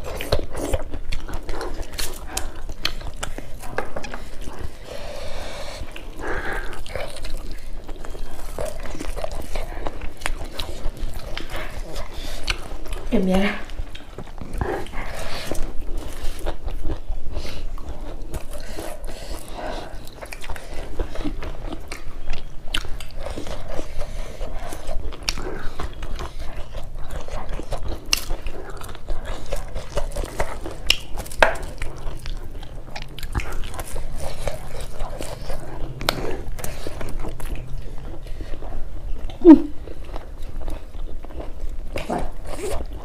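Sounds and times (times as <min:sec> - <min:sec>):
people chewing: 0:00.0 - 0:43.0.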